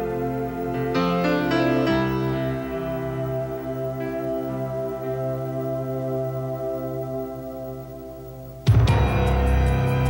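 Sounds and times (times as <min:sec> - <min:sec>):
ambient music of held chords: 0:00.0 - 0:10.0.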